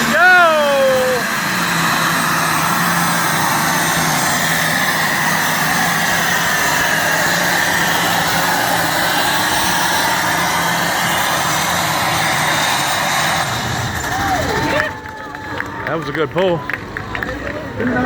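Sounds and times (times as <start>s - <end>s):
high turbo whine: 0.0s - 18.0s
tractor engine droning under load: 0.0s - 18.0s.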